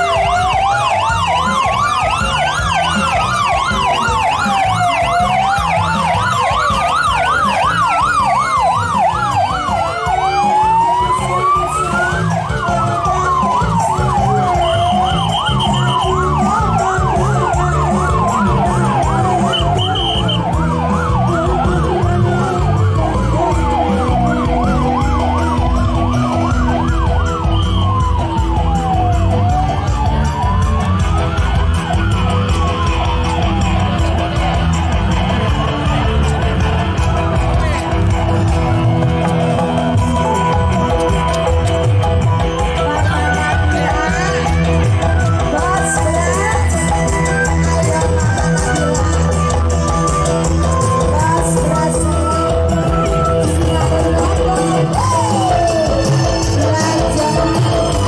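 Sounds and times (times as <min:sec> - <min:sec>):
siren yelping: 0:00.0 - 0:37.5, 0:39.0 - 0:58.0
siren wailing: 0:00.0 - 0:58.0.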